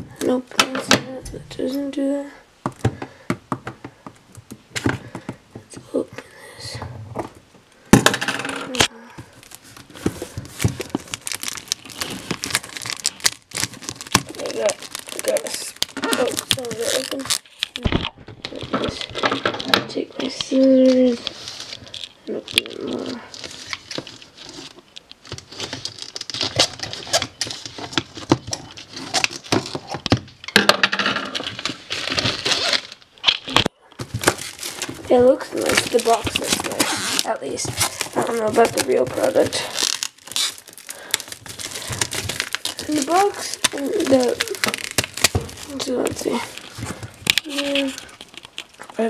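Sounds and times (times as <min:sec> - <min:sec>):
plastic wrap crinkling and tearing: 0:07.8 - 0:30.6, 0:31.2 - 0:49.0.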